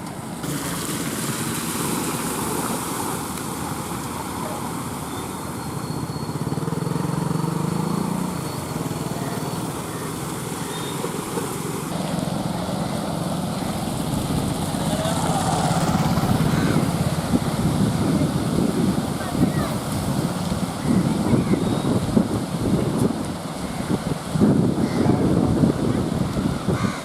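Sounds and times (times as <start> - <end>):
continuous rushing noise: 0.0 - 27.0.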